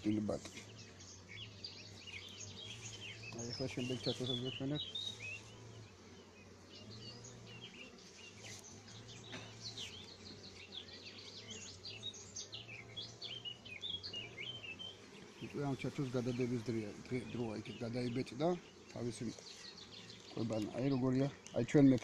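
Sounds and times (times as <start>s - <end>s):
honeybees humming: 0.0s - 22.0s
small birds chirping: 0.0s - 22.0s.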